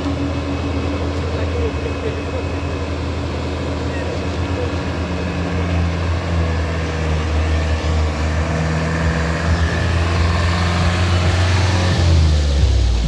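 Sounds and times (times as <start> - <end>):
heavy vehicle engine running: 0.0 - 13.0.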